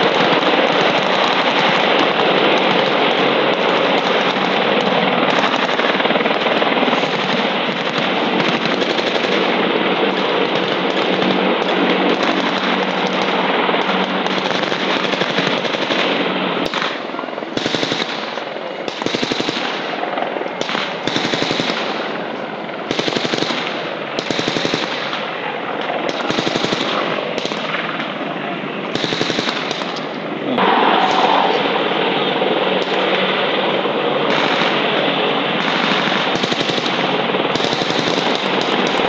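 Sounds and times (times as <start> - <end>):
machine gun fire: 0.0 - 22.2, 22.9 - 25.3, 26.1 - 28.0, 28.9 - 32.0, 34.2 - 35.0, 35.6 - 39.0
steady background noise: 0.0 - 39.0.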